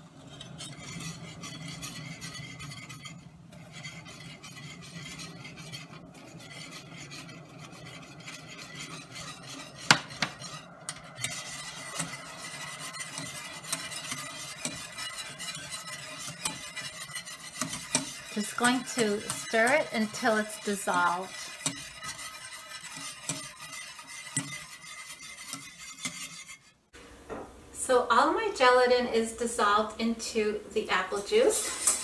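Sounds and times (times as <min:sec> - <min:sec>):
whisk scraping in saucepan: 0:00.0 - 0:26.9.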